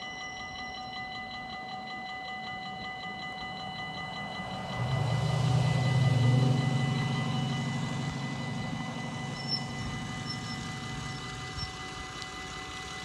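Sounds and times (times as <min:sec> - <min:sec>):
level crossing bells ringing: 0:00.0 - 0:13.0
barrier motors humming: 0:02.5 - 0:13.0.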